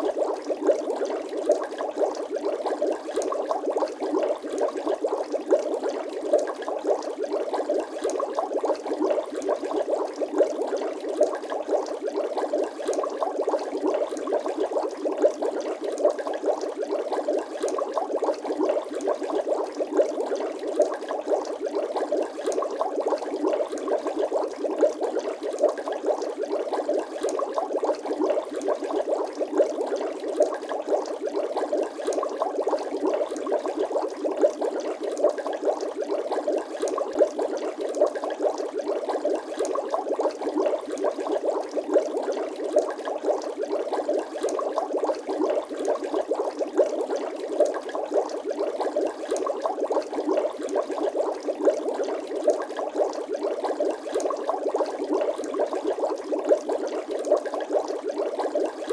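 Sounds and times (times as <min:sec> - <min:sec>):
water bubbling and gurgling: 0:00.0 - 0:58.9.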